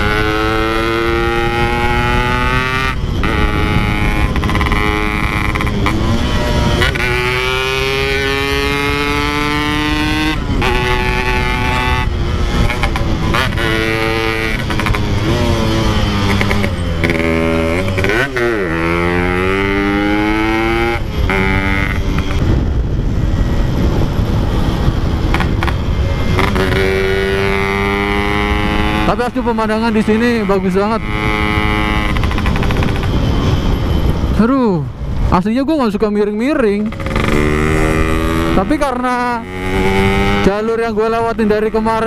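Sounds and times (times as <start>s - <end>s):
motorcycle engine revving: 0.0s - 35.2s, 36.6s - 42.0s.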